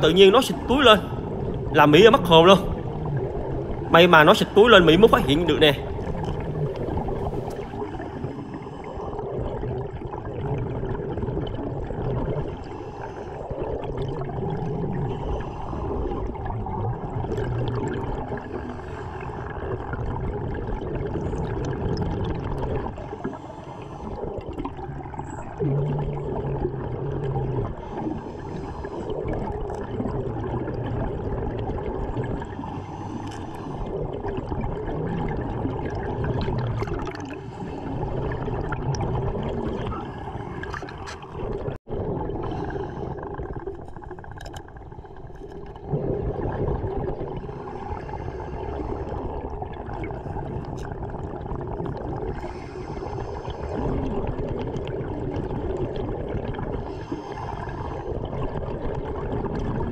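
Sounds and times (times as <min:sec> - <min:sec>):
diver's exhaled air bubbling: 0:00.0 - 0:59.9.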